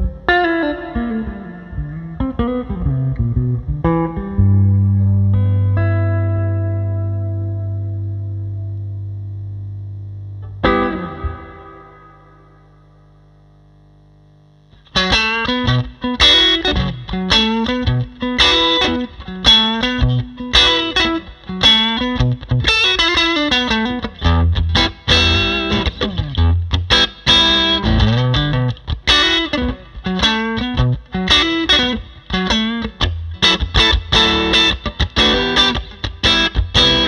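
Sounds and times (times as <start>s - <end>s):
distorted electric guitar: 0.0s - 37.0s.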